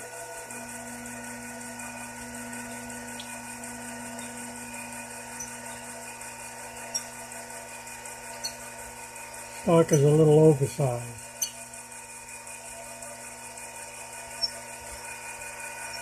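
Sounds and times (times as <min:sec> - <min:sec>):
lathe spindle motor humming: 0:00.0 - 0:16.0.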